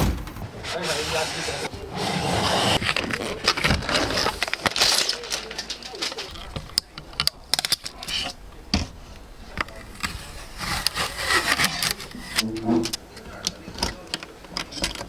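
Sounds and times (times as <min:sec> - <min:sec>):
scraping and rubbing: 0:00.0 - 0:15.0.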